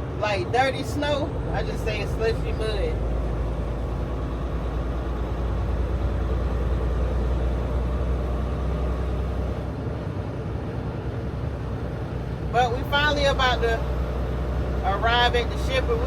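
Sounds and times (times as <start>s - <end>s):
road and tyre noise: 0.0s - 16.0s
truck diesel engine running: 0.0s - 16.0s.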